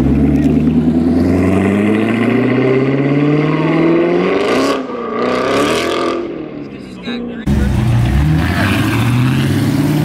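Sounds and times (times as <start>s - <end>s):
car engine accelerating hard: 0.0s - 6.4s, 7.4s - 10.0s.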